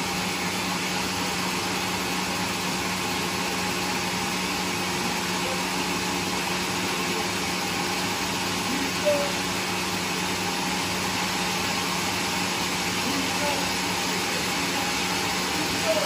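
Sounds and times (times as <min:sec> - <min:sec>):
sawmill machinery droning: 0:00.0 - 0:16.0.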